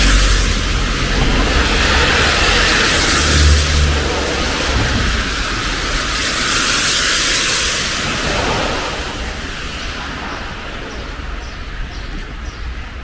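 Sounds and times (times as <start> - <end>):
low rumble: 0.0 - 12.4
tyres hissing on wet asphalt: 0.0 - 13.0.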